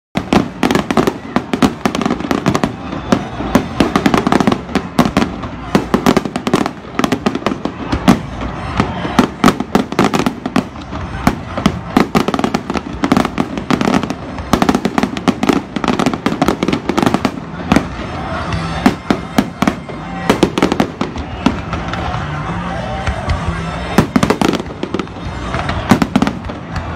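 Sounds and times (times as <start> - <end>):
fireworks booming: 0.2 - 22.4, 23.1 - 26.9.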